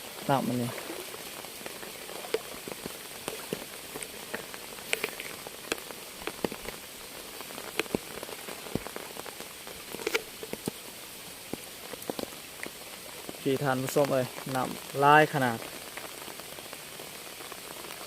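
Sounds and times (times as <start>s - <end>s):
rain hissing on water: 0.0s - 18.0s
raindrops landing: 0.0s - 18.0s.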